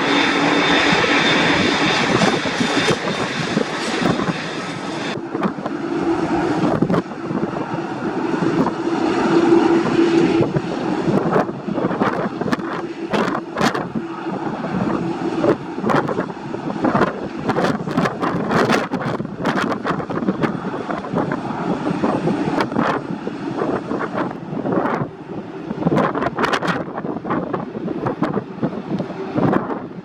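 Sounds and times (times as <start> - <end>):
airliner engine hum: 0.0 - 30.0
wind buffeting microphone: 0.0 - 30.0.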